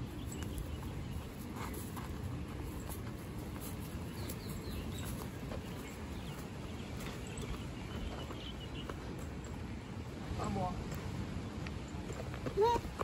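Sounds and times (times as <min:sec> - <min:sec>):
footsteps on dirt path: 0:00.0 - 0:13.0.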